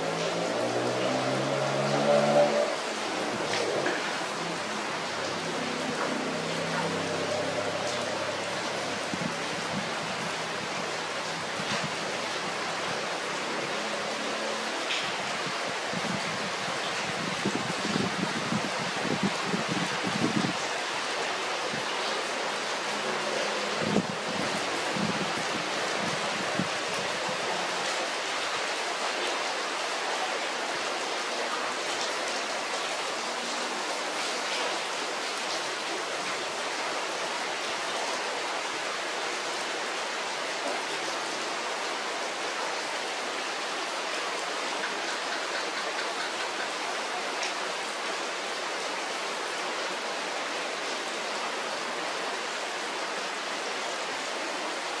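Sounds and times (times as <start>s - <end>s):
heavy rain on foliage: 0.0s - 55.0s.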